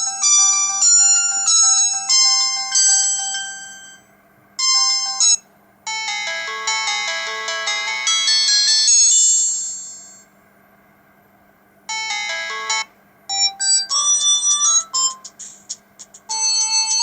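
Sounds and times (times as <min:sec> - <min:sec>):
mobile phone ringtone melody: 0:00.0 - 0:10.2, 0:11.9 - 0:15.5, 0:16.2 - 0:17.0.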